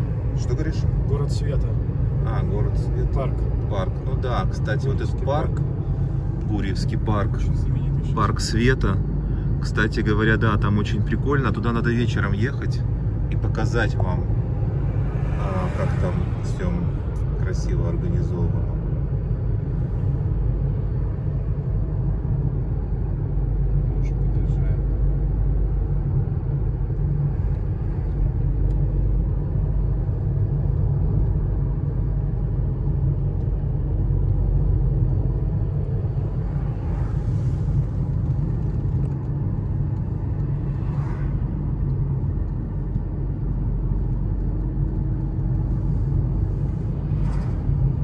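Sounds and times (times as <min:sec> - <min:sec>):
car interior road rumble: 0:00.0 - 0:48.0.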